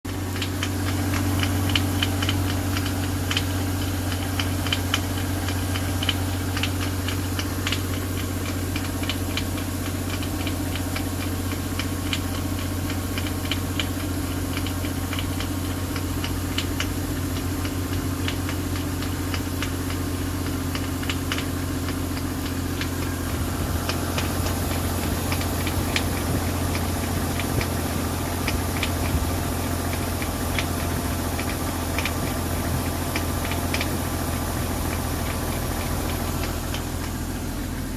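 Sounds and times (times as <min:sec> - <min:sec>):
car engine idling: 0:00.0 - 0:37.9
irregular clicking rattle: 0:00.2 - 0:37.2.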